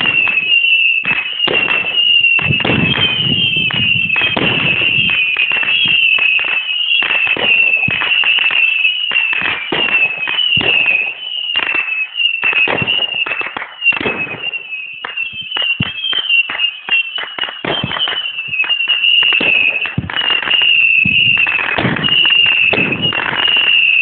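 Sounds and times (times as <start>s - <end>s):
firework whistles: 0.0s - 24.0s
fireworks bangs and crackles: 0.0s - 24.0s.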